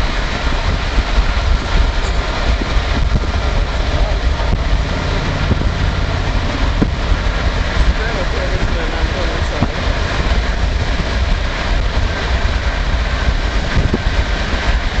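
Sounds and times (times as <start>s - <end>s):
tyres rumbling on pavement: 0.0s - 15.0s.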